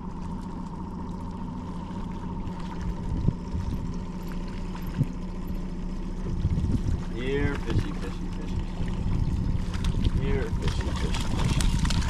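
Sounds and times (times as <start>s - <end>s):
boat motor running: 0.0s - 12.0s
water splashing against hull: 0.0s - 12.0s.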